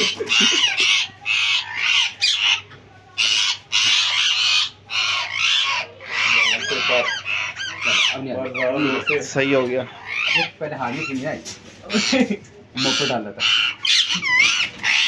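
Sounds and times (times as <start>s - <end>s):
parrot screeching: 0.0s - 15.0s.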